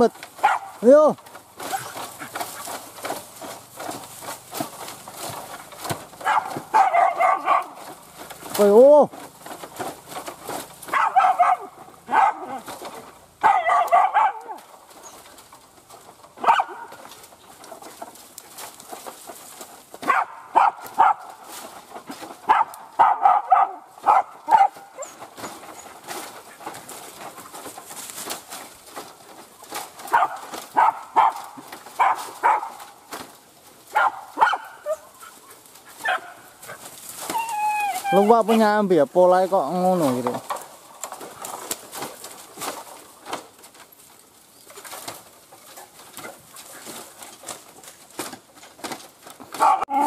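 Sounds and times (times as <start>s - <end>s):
rustling and scratching: 0.0s - 50.0s
dogs barking and yapping: 0.2s - 0.9s, 1.6s - 38.9s, 39.5s - 50.0s.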